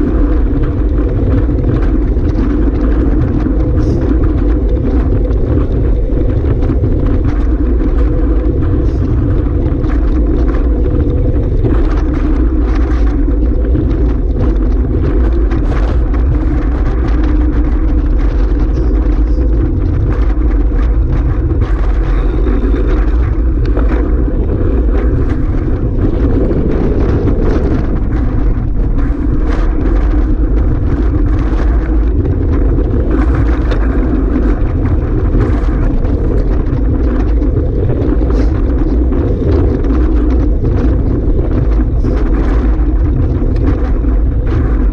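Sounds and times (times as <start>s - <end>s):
steady drone: 0.0s - 44.9s
wind buffeting microphone: 0.0s - 44.9s.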